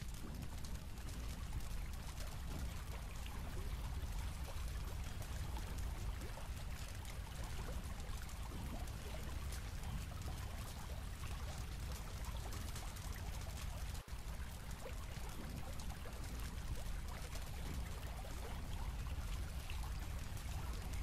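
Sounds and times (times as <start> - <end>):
quiet steady rushing noise: 0.0 - 21.0.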